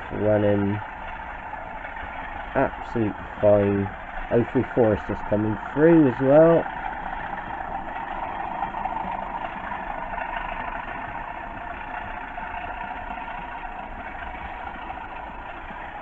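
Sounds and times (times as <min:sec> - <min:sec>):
model locomotive diesel engine drone: 0:00.0 - 0:16.0.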